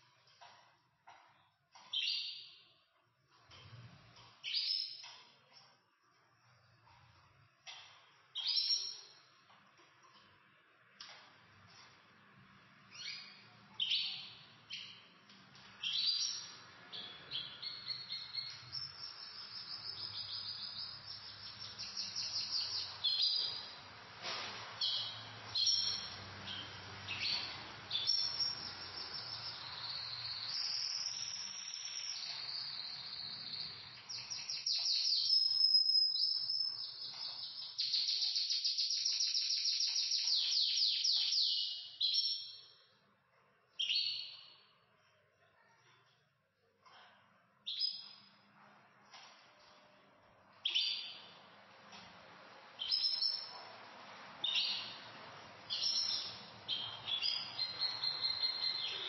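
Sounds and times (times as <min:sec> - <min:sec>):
canaries singing: 0:00.2 - 0:42.9, 0:43.7 - 0:44.6, 0:47.6 - 0:48.4, 0:50.5 - 0:59.0.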